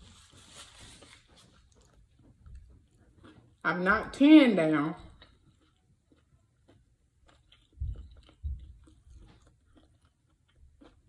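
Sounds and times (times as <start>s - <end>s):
chewing fried chicken: 0.0s - 3.9s, 4.8s - 11.0s.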